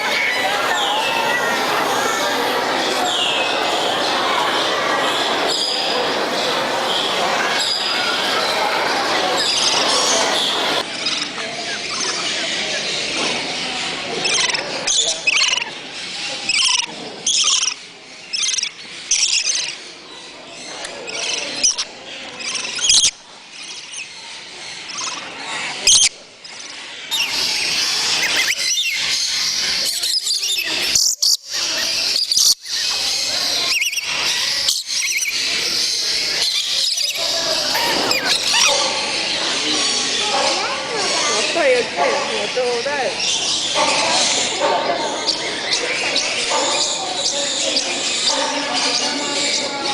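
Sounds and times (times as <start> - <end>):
many birds chirping: 0.0 - 49.9.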